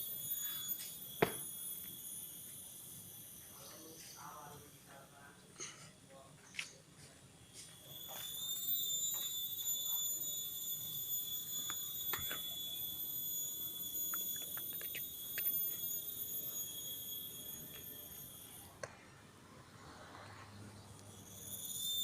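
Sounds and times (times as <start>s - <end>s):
steady high-pitched tone: 0.0s - 5.5s, 7.0s - 22.0s.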